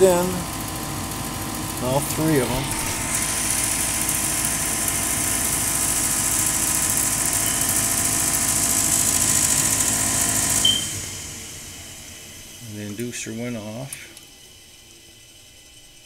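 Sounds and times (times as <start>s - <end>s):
furnace fan motor hum: 0.0s - 16.0s.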